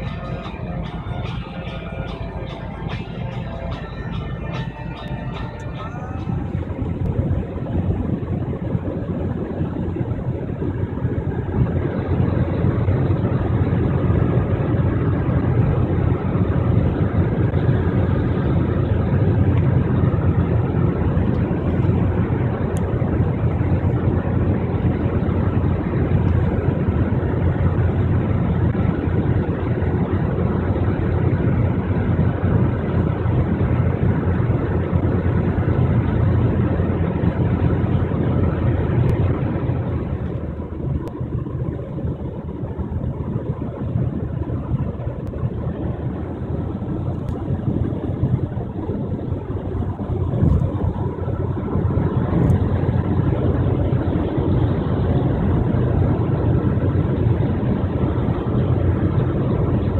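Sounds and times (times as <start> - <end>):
car cabin road drone: 0.0 - 59.9.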